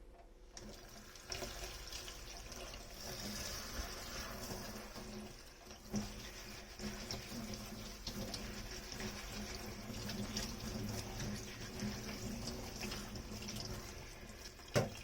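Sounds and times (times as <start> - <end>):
water running and splashing: 0.6 - 15.0.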